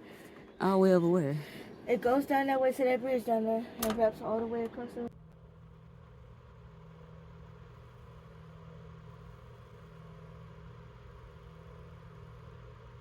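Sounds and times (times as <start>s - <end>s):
heater humming: 0.0s - 13.0s.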